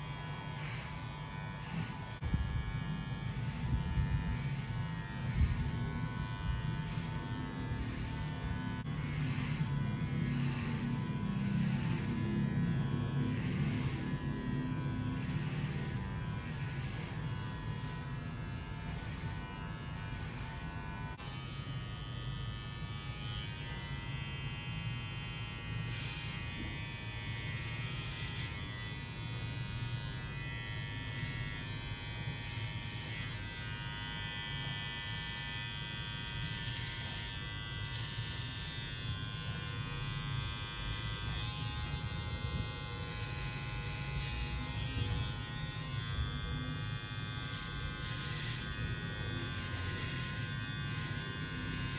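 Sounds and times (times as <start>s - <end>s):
electric hair clippers buzzing: 0.0s - 51.9s.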